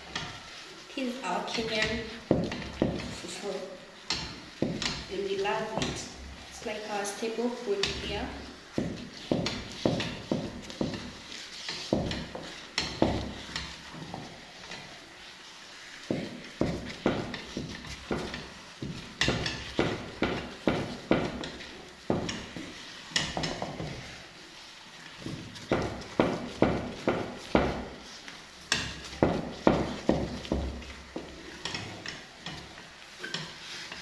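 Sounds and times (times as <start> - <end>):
wooden stick knocking in a pan: 1.4 - 6.4, 7.8 - 14.9, 15.9 - 24.2, 25.1 - 34.0.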